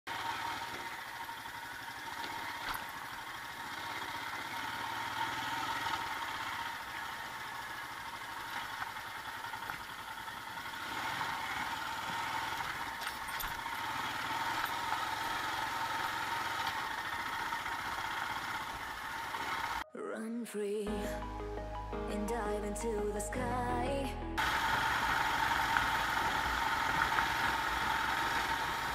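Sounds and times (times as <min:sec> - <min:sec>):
motorcycle engine running: 0:00.0 - 0:19.8, 0:24.4 - 0:28.9.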